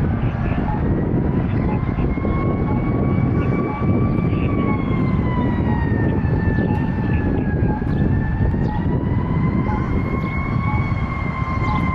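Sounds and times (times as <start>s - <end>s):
emergency siren wailing: 0.0s - 11.9s
engine and road rumble: 0.0s - 11.9s.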